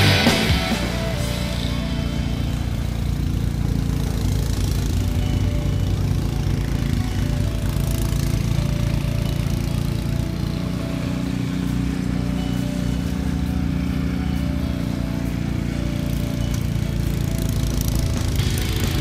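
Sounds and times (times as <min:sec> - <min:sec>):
snowblower engine running: 0:00.0 - 0:19.0
snowblower chewing through snow: 0:00.1 - 0:19.0.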